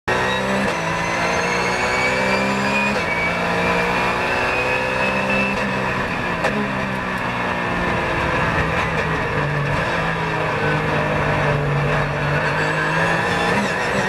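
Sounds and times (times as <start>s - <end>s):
race car engine accelerating: 0.1s - 14.0s.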